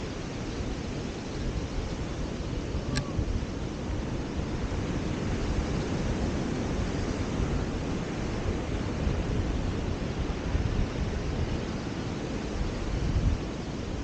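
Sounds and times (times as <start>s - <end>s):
surf washing on beach: 0.0s - 14.0s
wind on microphone: 0.0s - 14.0s.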